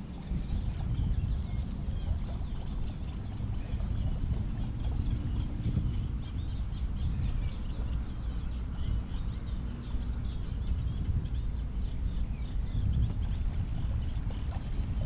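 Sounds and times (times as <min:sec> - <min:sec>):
small birds chirping: 0:00.0 - 0:15.0
wind and water rumble: 0:00.0 - 0:15.0.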